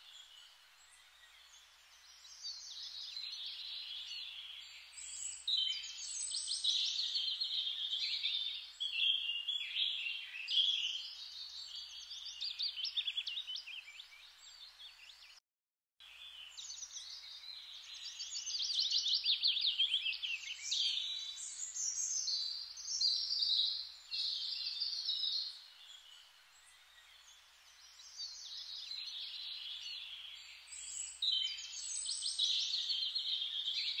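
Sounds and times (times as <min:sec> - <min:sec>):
birds chirping and trilling: 0:00.0 - 0:15.4, 0:16.0 - 0:34.0.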